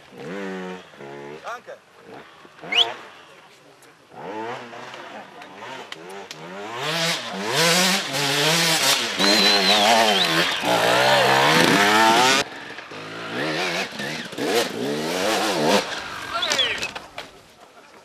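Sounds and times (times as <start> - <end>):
dirt bike engine revving: 0.0 - 3.3, 4.1 - 17.0.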